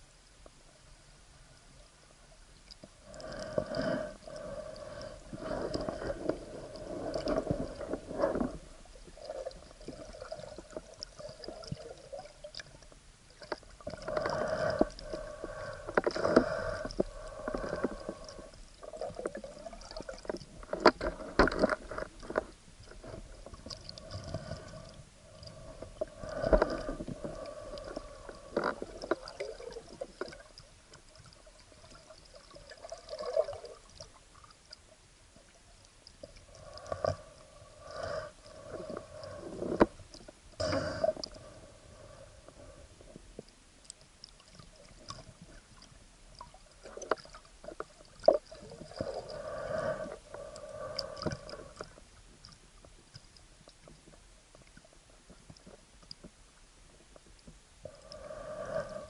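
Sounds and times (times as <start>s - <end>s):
water gurgling against camera housing: 2.6s - 59.0s.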